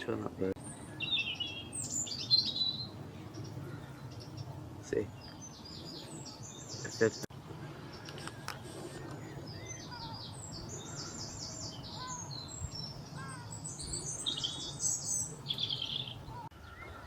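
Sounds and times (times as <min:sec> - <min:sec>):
low background rumble: 0:00.0 - 0:16.7
songbirds chirping and trilling: 0:00.0 - 0:17.0.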